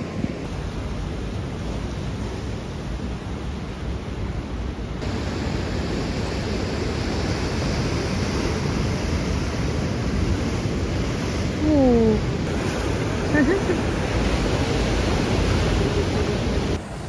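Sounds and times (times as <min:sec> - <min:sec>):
ocean surf breaking on shore: 0:00.0 - 0:17.0.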